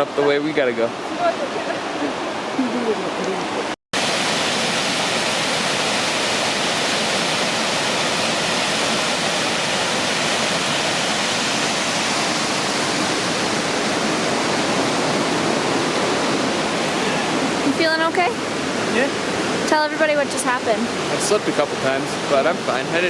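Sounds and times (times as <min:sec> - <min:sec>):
fast-flowing water roaring: 0:00.0 - 0:23.0.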